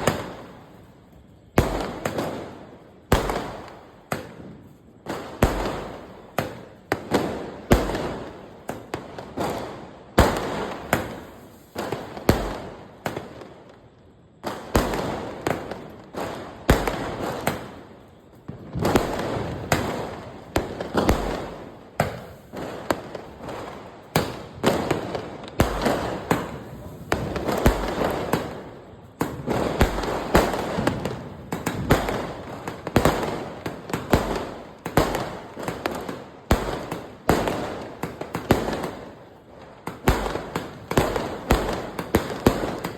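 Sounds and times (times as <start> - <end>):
firework bangs with crackling: 0.0 - 42.9.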